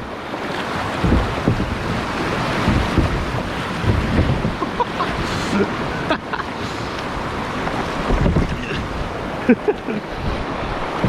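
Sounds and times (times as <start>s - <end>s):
river water rushing and splashing: 0.0s - 11.0s
wind rumbling on microphone: 0.0s - 11.0s.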